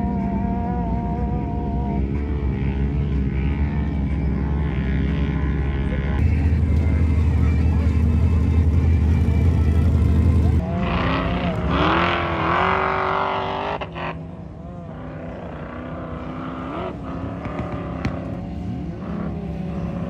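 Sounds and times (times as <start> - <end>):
off-road vehicle engines revving: 0.0 - 20.0.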